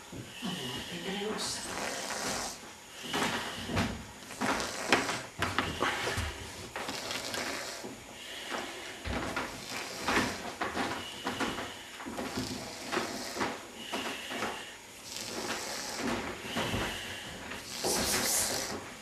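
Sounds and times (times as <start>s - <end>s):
snoring: 0.3s - 18.9s.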